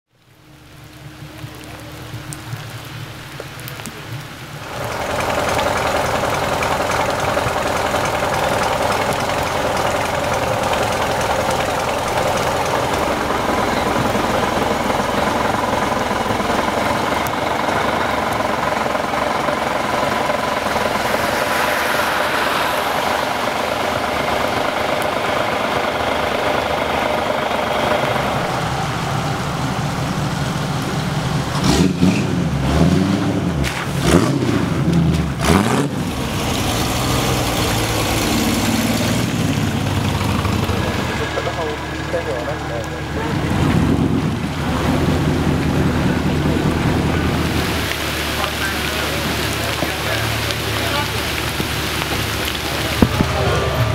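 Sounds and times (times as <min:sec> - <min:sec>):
vehicle engine idling: 0:00.1 - 0:53.9.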